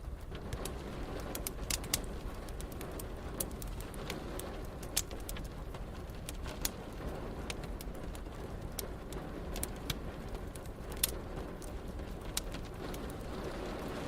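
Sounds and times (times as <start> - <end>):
rain hissing: 0.0 - 14.0
wood fire crackling and popping: 0.0 - 14.0.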